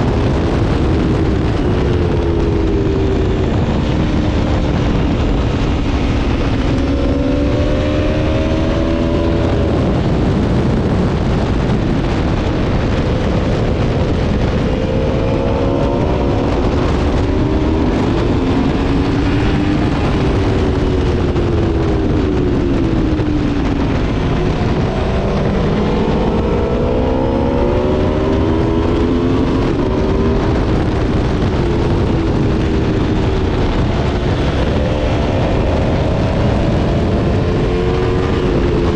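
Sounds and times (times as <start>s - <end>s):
motorcycle engine running hard: 0.0s - 38.9s
wind noise rushing: 0.0s - 38.9s.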